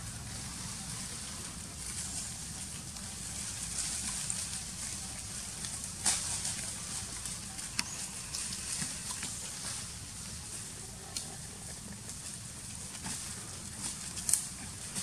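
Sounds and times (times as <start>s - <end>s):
dry leaves rustling and crackling: 0.0s - 15.0s
steady outdoor hiss: 0.0s - 15.0s.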